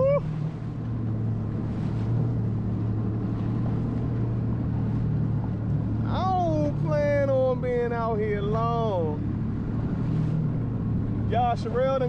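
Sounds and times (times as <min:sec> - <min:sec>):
jet ski engine droning: 0:00.0 - 0:12.0
water noise: 0:00.0 - 0:12.0
wind: 0:00.0 - 0:12.0.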